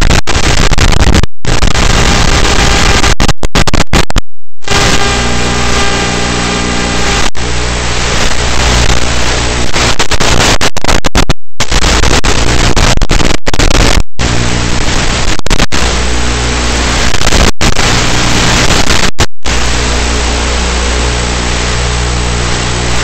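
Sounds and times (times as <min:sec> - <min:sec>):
hissing radio static: 0:00.0 - 0:23.0.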